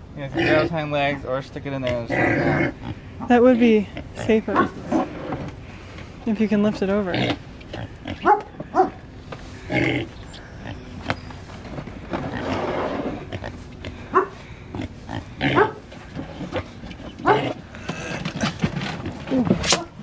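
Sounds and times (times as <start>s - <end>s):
pigs grunting: 0.2s - 0.8s, 1.7s - 5.6s, 7.0s - 9.0s, 9.6s - 11.2s, 12.0s - 20.0s.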